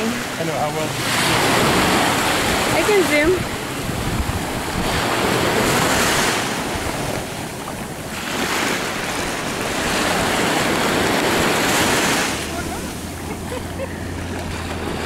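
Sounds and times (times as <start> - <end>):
small waves washing in: 0.0 - 15.0
wind buffeting microphone: 0.9 - 15.0.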